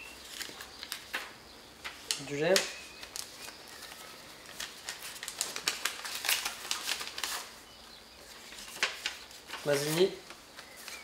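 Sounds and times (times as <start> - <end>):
paper rustling: 0.2 - 7.6, 8.2 - 11.0.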